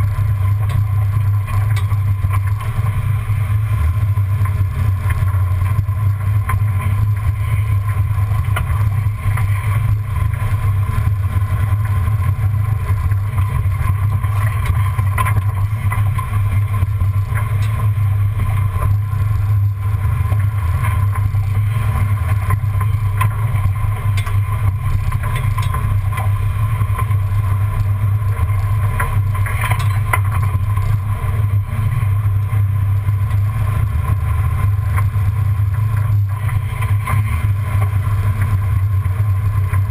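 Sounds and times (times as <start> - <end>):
muffled truck engine drone: 0.0 - 39.9.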